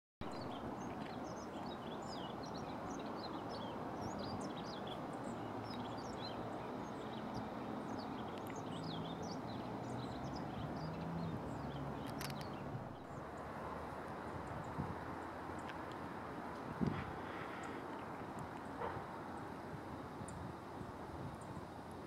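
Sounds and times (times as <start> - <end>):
small birds chirping: 0.2 - 16.0, 16.7 - 21.9.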